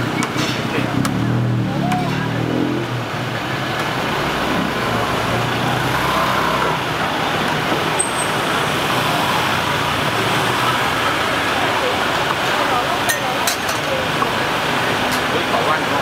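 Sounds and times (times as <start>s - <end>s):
motor vehicle running: 0.0s - 16.0s
roadside traffic noise: 0.0s - 16.0s.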